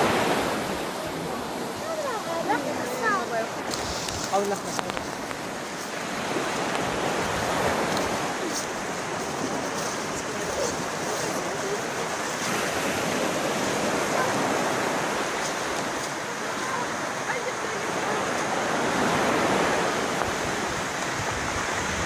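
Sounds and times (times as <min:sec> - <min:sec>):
waterfall rushing water: 0:00.0 - 0:22.0.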